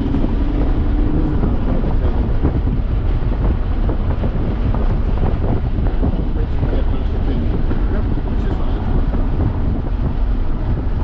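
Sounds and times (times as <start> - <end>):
car engine drone: 0.0 - 11.0
road and wind rumble: 0.0 - 11.0
wind on microphone: 0.0 - 11.0.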